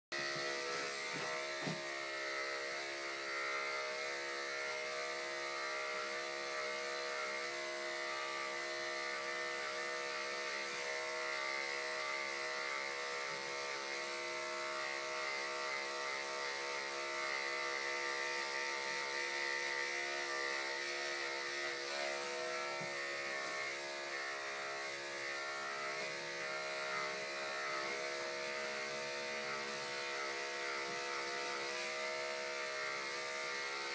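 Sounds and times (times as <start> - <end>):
electric clippers buzzing: 0.1 - 33.9.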